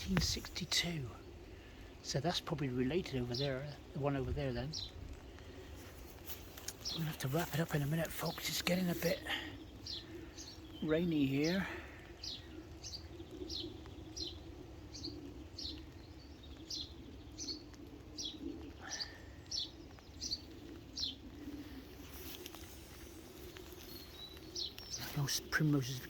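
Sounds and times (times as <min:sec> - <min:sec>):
songbird calling: 0:00.0 - 0:26.0.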